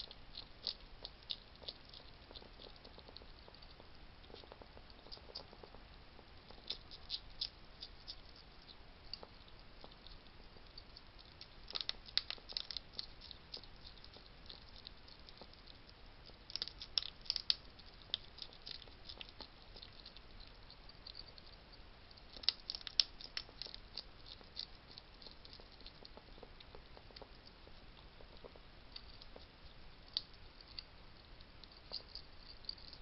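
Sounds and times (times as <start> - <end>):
hedgehogs clicking and crackling: 0.0 - 33.0.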